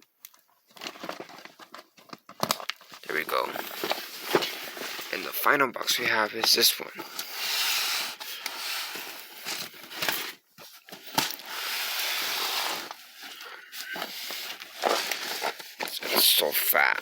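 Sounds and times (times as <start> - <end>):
plastic packs crinkling: 0.2 - 7.4, 8.1 - 17.0.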